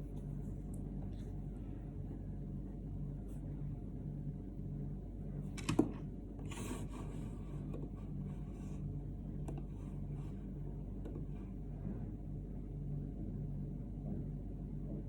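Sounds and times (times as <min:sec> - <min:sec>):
low pulsing room hum: 0:00.0 - 0:15.0.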